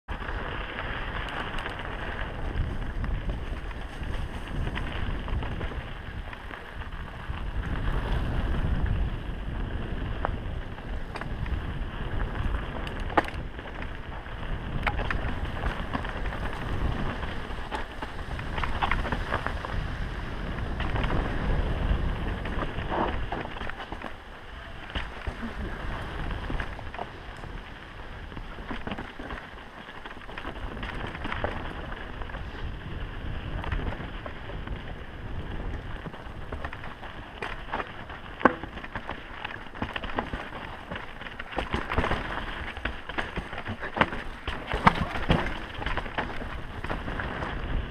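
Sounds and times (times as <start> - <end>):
bike tyre rumble: 0.0 - 47.9
bike rattling over rocks: 0.1 - 47.9
wind noise on microphone: 0.1 - 47.9.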